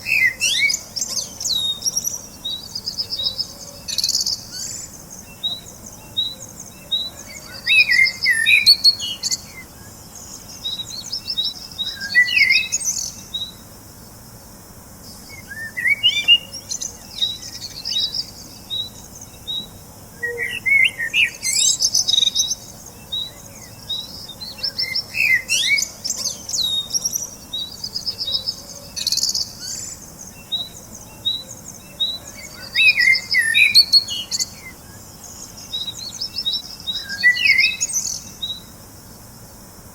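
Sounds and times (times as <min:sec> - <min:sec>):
birds singing and chirping: 0:00.0 - 0:39.7.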